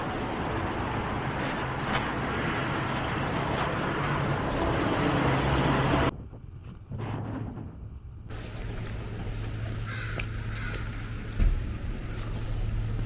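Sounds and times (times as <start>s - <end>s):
city street traffic: 0.0s - 6.2s, 8.3s - 13.0s
vehicle engine humming: 0.0s - 6.9s, 7.6s - 13.0s.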